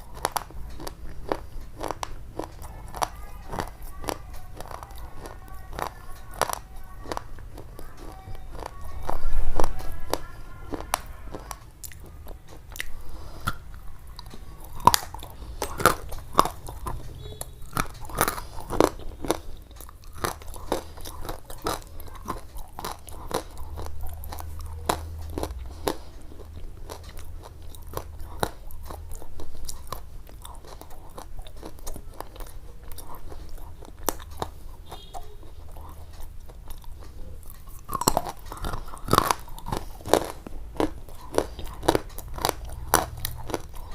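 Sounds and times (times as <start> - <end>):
crisp food crunching: 0.0 - 43.9.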